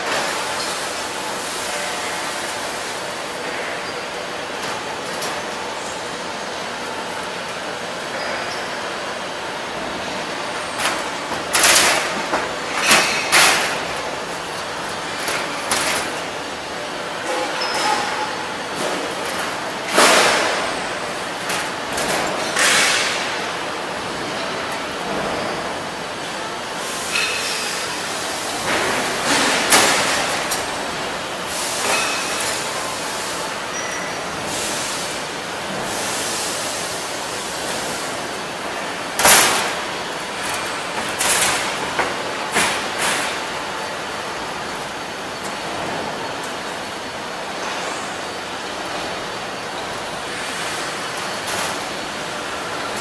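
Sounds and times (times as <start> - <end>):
production line machinery running: 0.0 - 53.0.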